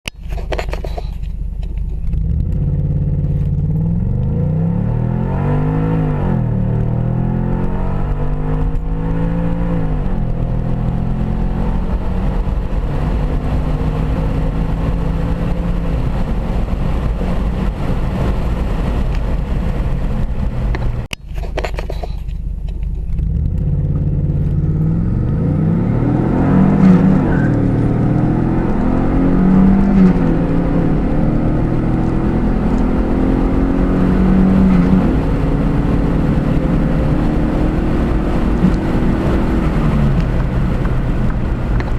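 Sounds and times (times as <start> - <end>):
car engine accelerating hard: 1.5 - 21.1, 22.4 - 41.9.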